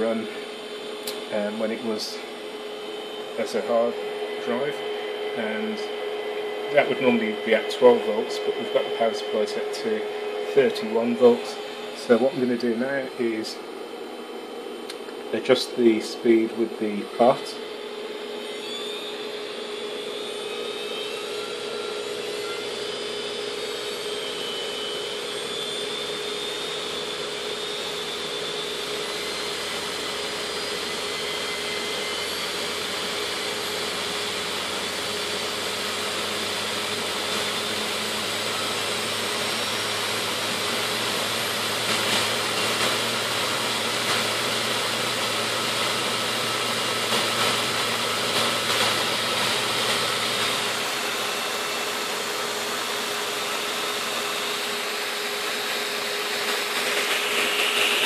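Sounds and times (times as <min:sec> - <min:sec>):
hard drive motor whirring whine: 0:00.0 - 0:58.0.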